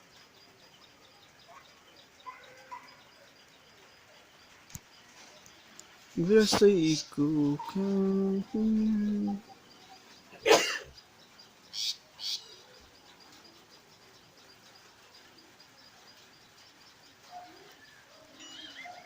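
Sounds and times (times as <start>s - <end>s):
birds chirping faintly: 0.0s - 19.0s.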